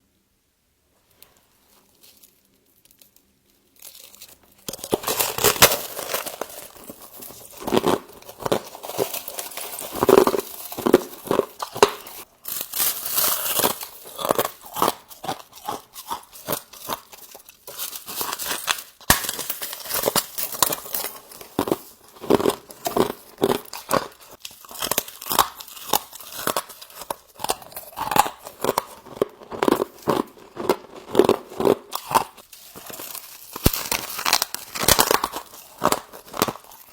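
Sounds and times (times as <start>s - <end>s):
frost being crunched and chewed: 1.8s - 36.9s.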